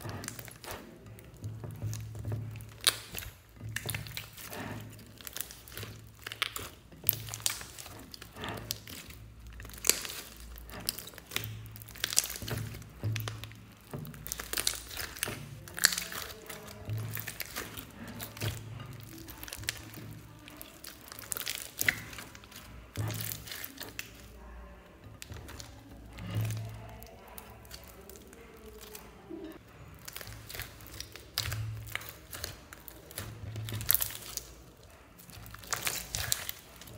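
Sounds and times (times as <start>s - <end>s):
sticky slime popping: 0.0s - 36.9s.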